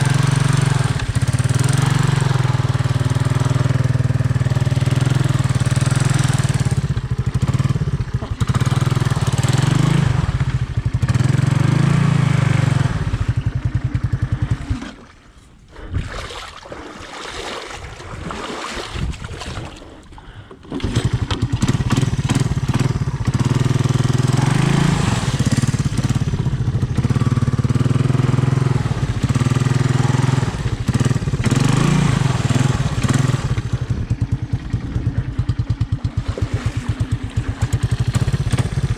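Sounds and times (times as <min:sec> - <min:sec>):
three-wheeler engine running: 0:00.0 - 0:15.2, 0:20.2 - 0:38.9.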